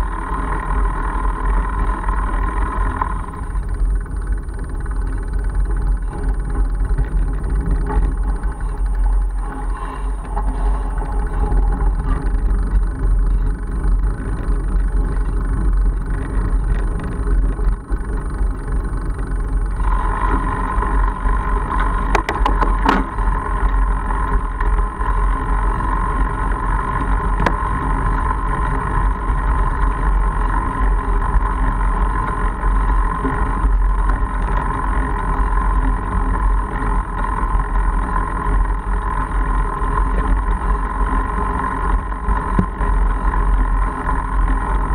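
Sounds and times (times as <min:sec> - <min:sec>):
bike tyres rolling on gravel: 0:00.0 - 0:44.9
steady hum: 0:00.0 - 0:44.9.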